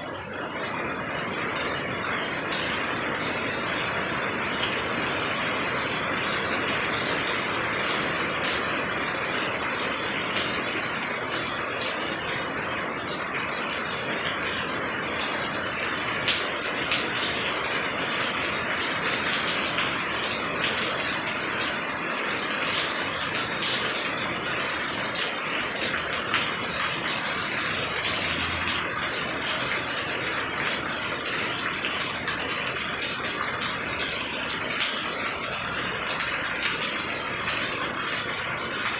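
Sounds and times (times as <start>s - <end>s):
raindrops ticking on surfaces: 0.0s - 38.9s
steady rain falling: 0.0s - 38.9s.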